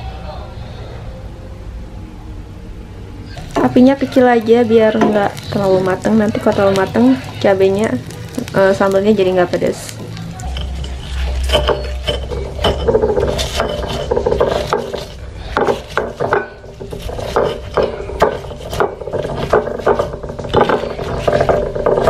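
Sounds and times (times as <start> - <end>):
stone pestle grinding in mortar: 3.4 - 22.0.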